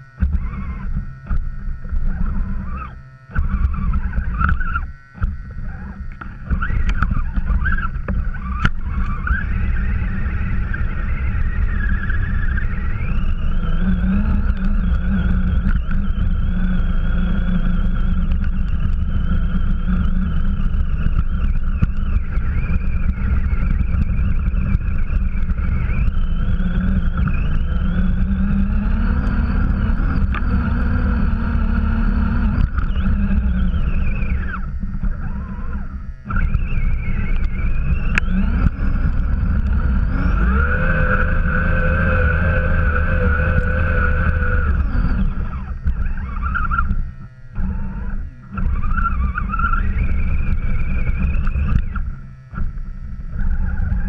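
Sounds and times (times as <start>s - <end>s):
chassis rumbling through snow: 0.0s - 54.0s
toy truck motor and gears whining: 0.0s - 54.0s.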